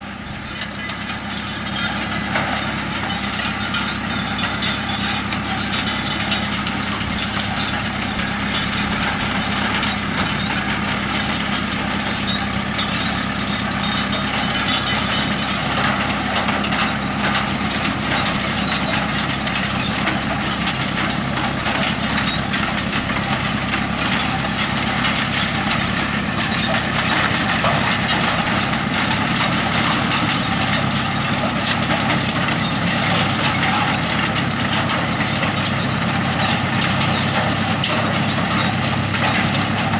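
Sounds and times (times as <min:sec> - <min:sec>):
machinery rattling: 0:00.0 - 0:39.9
tractor engine running: 0:00.0 - 0:39.9.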